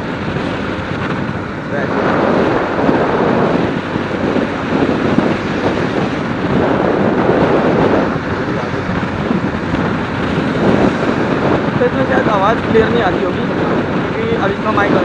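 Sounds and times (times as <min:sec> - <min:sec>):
motorcycle running: 0:00.0 - 0:15.0
road noise: 0:00.0 - 0:15.0
wind noise on microphone: 0:00.0 - 0:15.0.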